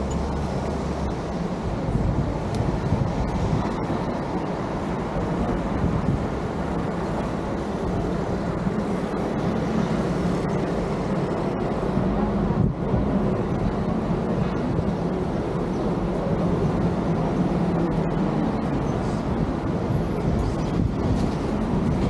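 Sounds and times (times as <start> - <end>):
vehicle engine hum: 0.0 - 22.0
wind and road noise: 0.0 - 22.0.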